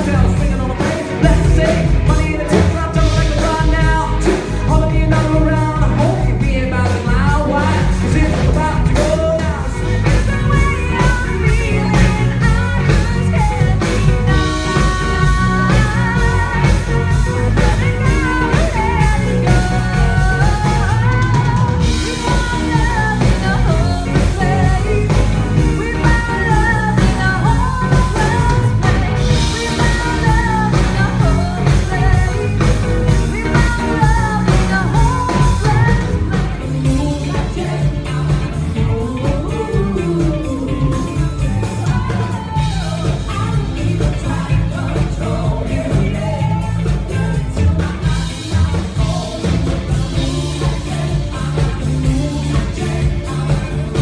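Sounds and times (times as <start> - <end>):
drum kit: 0.0 - 54.0
electric guitars: 0.0 - 54.0
keyboards: 0.0 - 54.0
person singing: 0.0 - 54.0.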